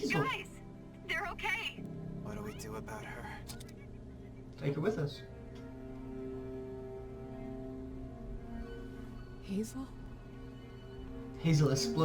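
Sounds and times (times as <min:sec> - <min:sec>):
sustained background music: 0:00.0 - 0:12.0.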